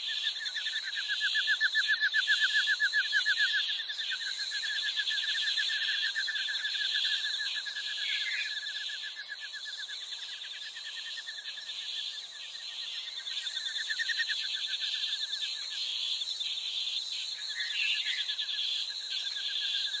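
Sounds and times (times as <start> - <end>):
insects buzzing high-pitched: 0.0 - 20.0.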